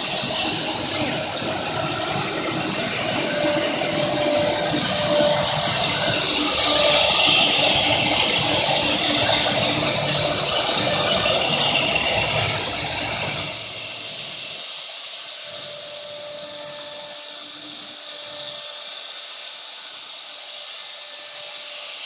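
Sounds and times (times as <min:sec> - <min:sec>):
router cutting wood: 0:00.0 - 0:14.5, 0:15.4 - 0:21.9
machine whine: 0:00.0 - 0:22.0.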